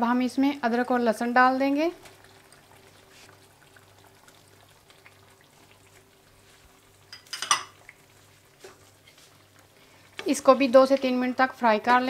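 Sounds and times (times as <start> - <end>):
oil sizzling with crackles: 0.0 - 12.0.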